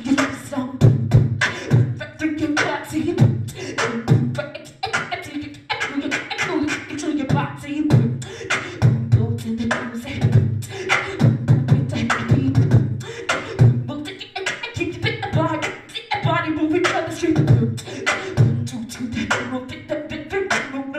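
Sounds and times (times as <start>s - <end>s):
person beatboxing: 0.0s - 20.9s.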